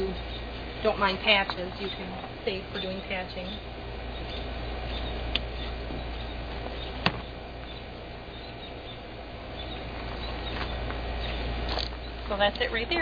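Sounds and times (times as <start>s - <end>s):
steady low hum: 0.0s - 13.0s
faint chirps: 1.8s - 12.3s.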